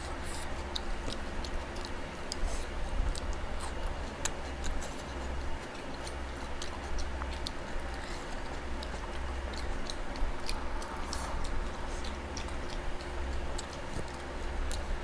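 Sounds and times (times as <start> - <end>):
chewing clicks and smacks: 0.0 - 15.0
steady low hum: 0.0 - 15.0.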